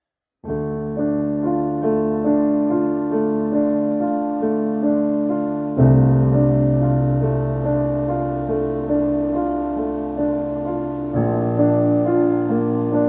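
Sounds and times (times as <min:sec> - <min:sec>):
slow piano music: 0:00.4 - 0:13.0.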